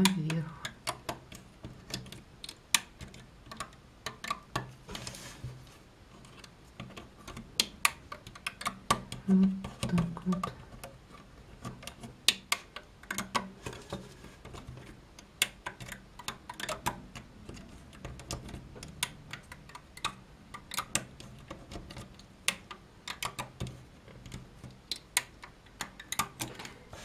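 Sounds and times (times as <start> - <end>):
crochet hook clicking on plastic pegs: 0.0 - 4.7, 6.2 - 11.0, 11.6 - 13.6, 14.5 - 26.6.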